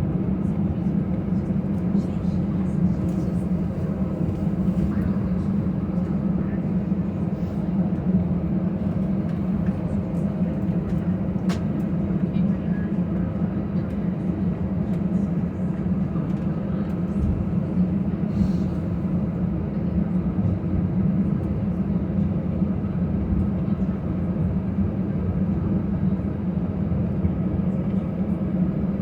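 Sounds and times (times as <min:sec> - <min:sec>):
aircraft cabin hum: 0:00.1 - 0:29.0.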